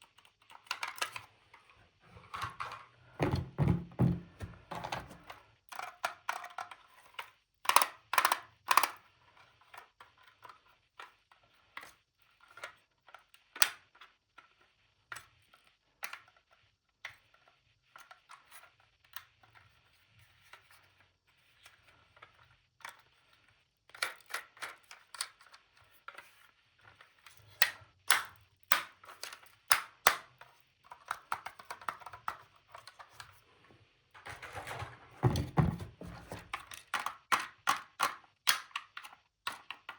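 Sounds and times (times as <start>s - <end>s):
plastic toys clicking and tapping: 0.0s - 1.3s, 4.0s - 19.5s, 22.2s - 33.4s, 34.2s - 39.9s.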